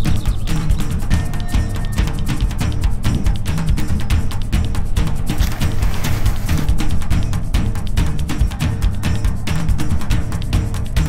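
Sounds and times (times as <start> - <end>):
music with fast drum beat: 0.0 - 11.0.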